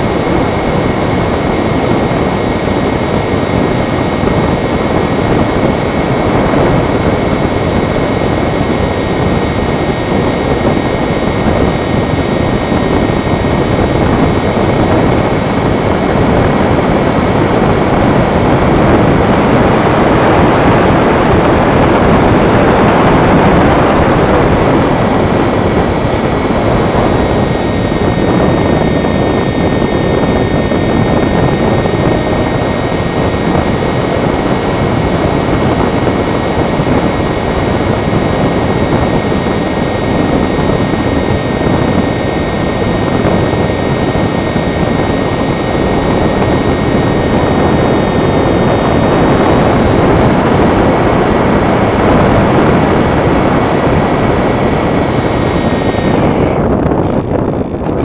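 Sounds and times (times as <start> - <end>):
electric motor and propeller whine: 0.0 - 58.0
wind rushing over microphone: 0.0 - 58.0.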